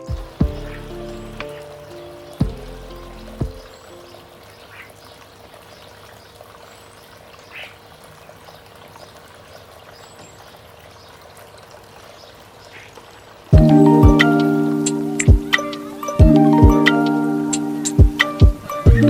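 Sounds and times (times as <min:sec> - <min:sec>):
water trickling and pouring: 0:00.0 - 0:19.0.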